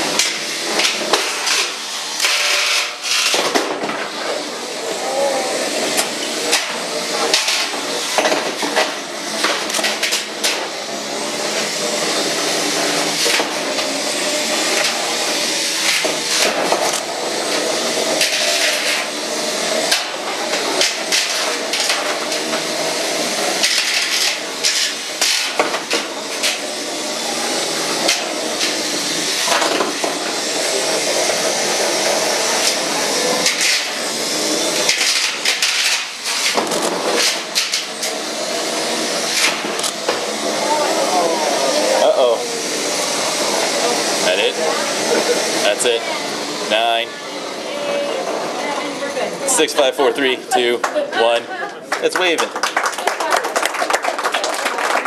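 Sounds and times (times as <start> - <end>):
electric motors whining: 0.0 - 51.8.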